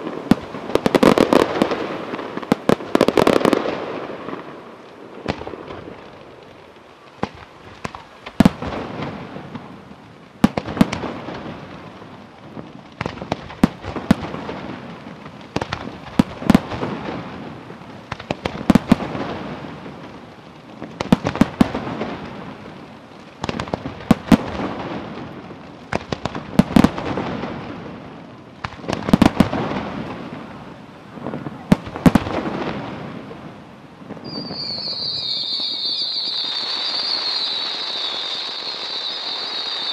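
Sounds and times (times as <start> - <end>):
fireworks bursting: 0.0 - 39.9
fireworks crackling and rumbling: 0.0 - 39.9.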